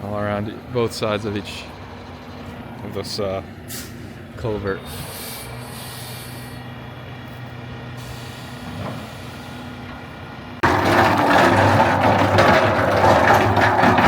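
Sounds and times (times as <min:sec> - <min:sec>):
heavy equipment engine idling: 0:00.0 - 0:14.0.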